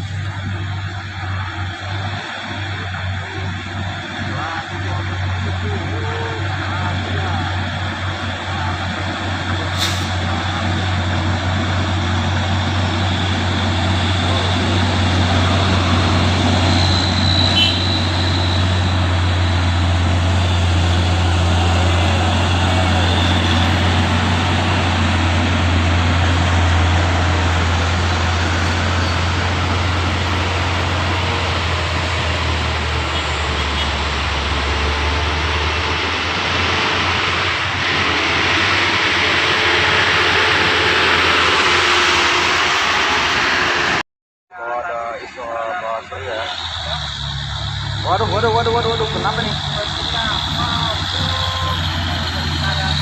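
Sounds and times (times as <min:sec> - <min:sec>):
road and wind noise: 0:00.0 - 0:44.0, 0:45.0 - 0:53.0
diesel truck engine droning: 0:00.0 - 0:53.0.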